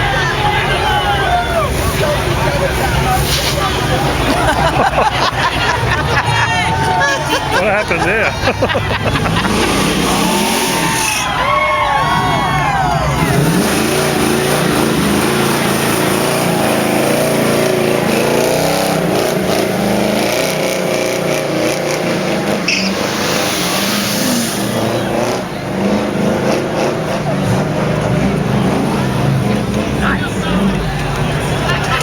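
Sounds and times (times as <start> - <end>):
car engine revving: 0.0 - 11.4, 12.1 - 32.0.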